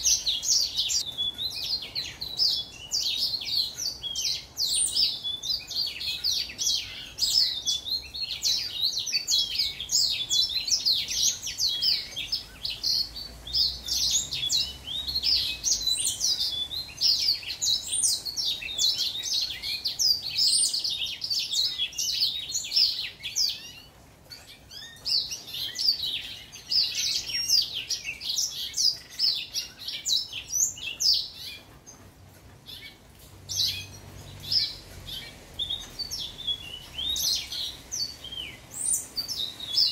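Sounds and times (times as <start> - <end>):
finch singing warble: 0.0 - 39.9.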